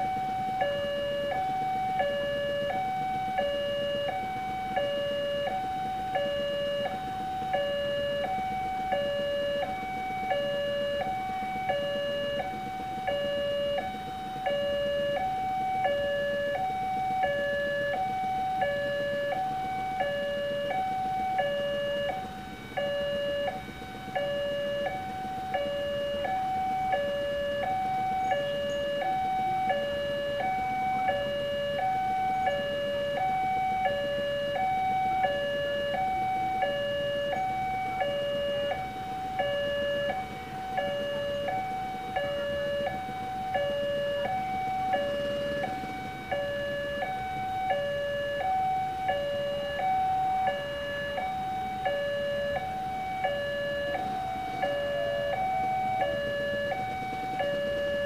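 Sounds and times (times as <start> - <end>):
level crossing two-tone alarm: 0.0 - 58.0.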